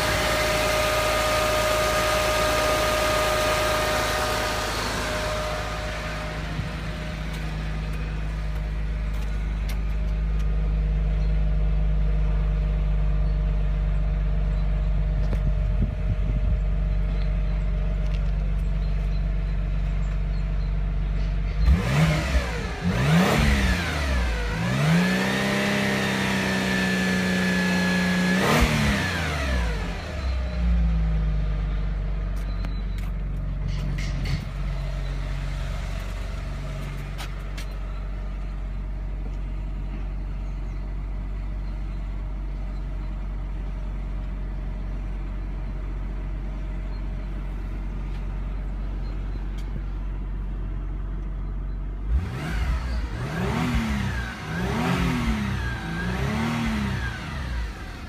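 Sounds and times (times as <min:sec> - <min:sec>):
car engine revving and idling: 0:00.0 - 0:58.0.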